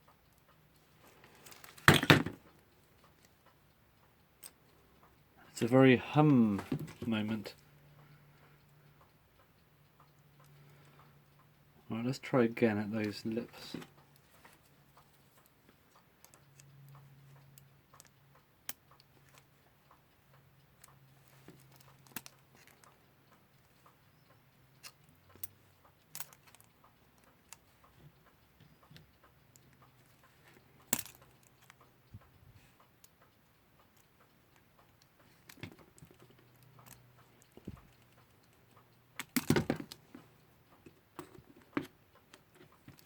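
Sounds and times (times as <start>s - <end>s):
pliers clicking on clock movement: 0.0s - 43.0s.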